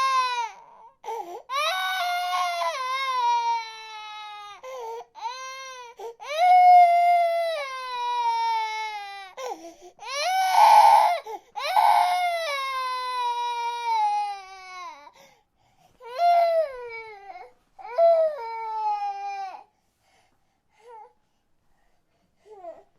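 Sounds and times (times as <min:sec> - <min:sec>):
infant crying: 0:00.0 - 0:15.2, 0:16.0 - 0:19.7.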